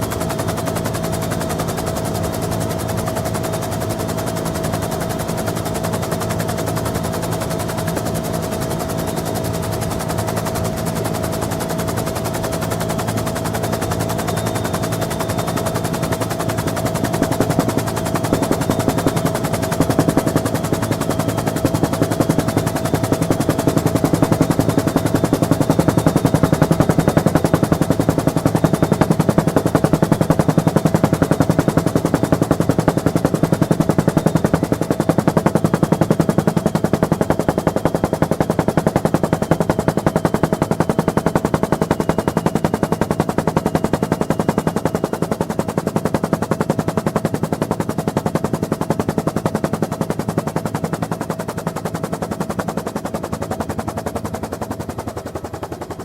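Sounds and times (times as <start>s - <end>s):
helicopter rotor chop: 0.0s - 56.0s.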